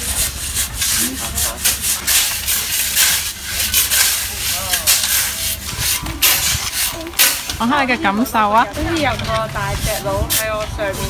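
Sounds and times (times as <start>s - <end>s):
shovels scraping sand: 0.0s - 11.0s.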